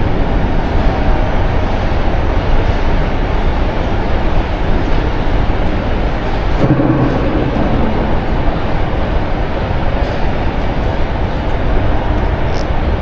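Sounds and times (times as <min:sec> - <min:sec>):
short low hum: 0:00.0 - 0:12.9
loud rumble and hiss: 0:00.0 - 0:13.0.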